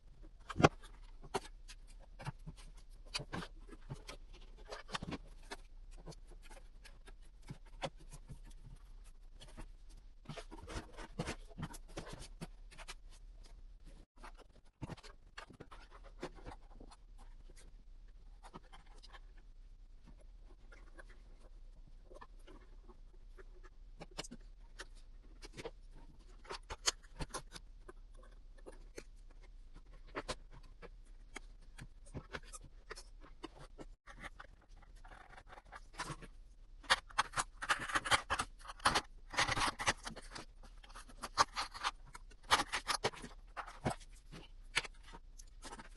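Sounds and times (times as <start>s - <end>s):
scratching and rubbing on cardboard: 0.2s - 45.9s.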